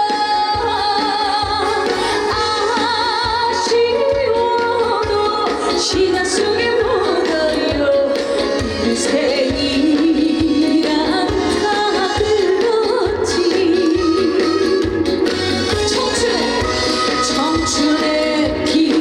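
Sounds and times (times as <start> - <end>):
steady drum beat: 0.0 - 19.0
woman singing: 0.0 - 19.0
amplified music: 0.5 - 4.4, 5.9 - 19.0.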